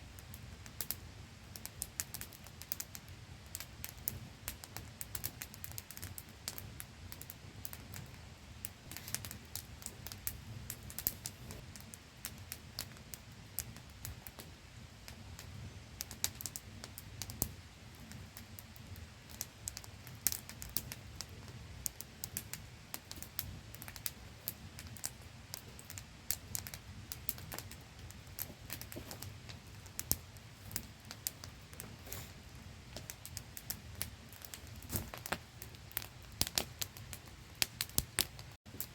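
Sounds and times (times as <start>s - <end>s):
campfire crackling and popping: 0.1s - 38.9s.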